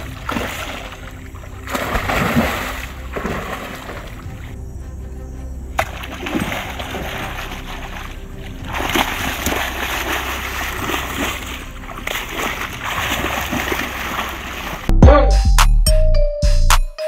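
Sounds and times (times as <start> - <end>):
water splashing and sloshing: 0.0 - 14.9.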